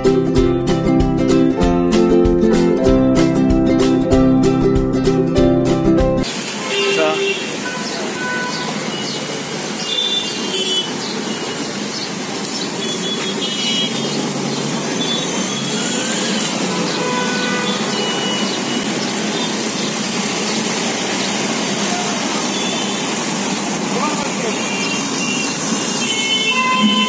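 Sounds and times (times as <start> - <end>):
city traffic hum: 0.0 - 27.0.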